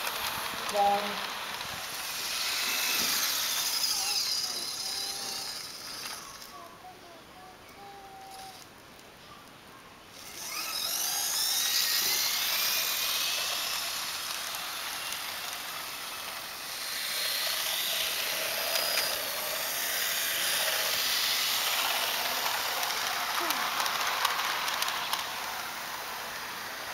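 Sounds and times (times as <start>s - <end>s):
small electric motor whining: 0.0s - 6.9s, 7.7s - 8.6s, 10.1s - 26.9s
model train wheels on track: 0.0s - 8.8s, 10.1s - 26.9s.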